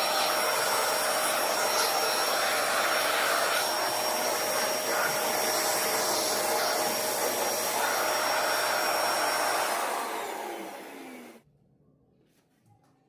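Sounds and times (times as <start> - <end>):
vacuum cleaner whining: 0.0 - 11.4
vacuum motor spinning down: 0.0 - 11.4.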